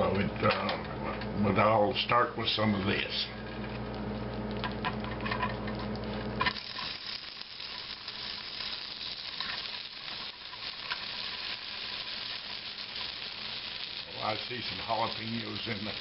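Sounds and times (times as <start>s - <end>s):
food sizzling in frying pan: 2.4s - 16.0s.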